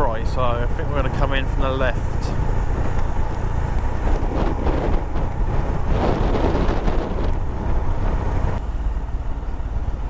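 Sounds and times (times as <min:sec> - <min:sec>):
wind rushing over microphone: 0:00.0 - 0:08.6
motorcycle engine running: 0:00.1 - 0:10.0.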